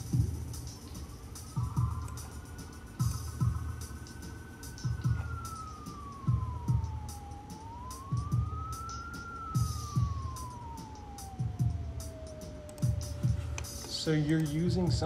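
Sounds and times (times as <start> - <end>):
low drum beat music: 0.0 - 15.0
siren-like tone: 0.0 - 15.0.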